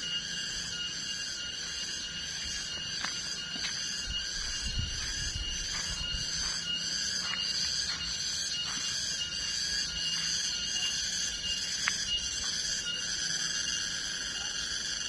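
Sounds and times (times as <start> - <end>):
cicadas shrilling: 0.0 - 15.0
thin continuous whine: 0.0 - 15.0.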